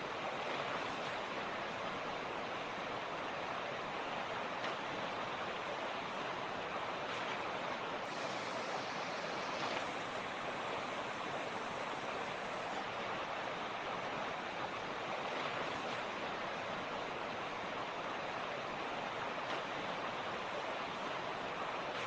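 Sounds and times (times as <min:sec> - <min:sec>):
creek flowing over rocks: 0:00.0 - 0:22.0.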